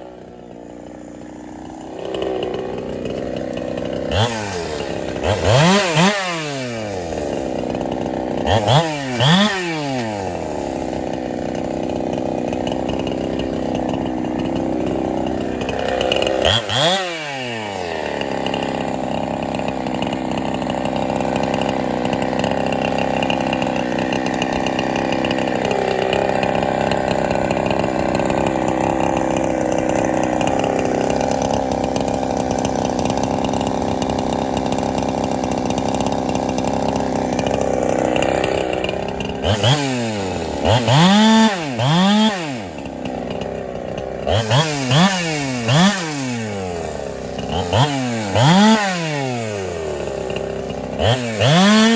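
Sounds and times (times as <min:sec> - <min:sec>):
chainsaw revving and cutting: 0:00.0 - 0:51.9.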